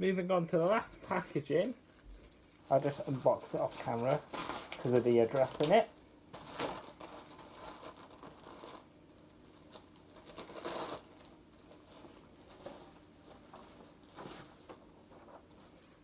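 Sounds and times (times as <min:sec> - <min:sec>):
parcel packaging crinkling: 0:01.1 - 0:16.0.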